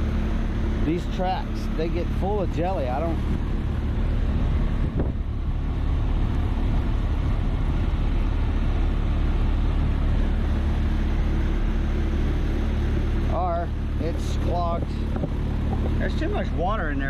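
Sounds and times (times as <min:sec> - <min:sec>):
rooftop hvac unit droning: 0:00.0 - 0:17.0.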